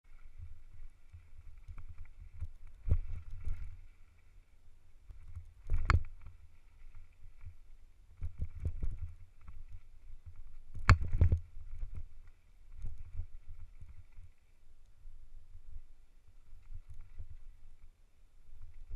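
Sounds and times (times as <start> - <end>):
wind rumble on microphone: 0.1 - 14.4, 15.0 - 18.9.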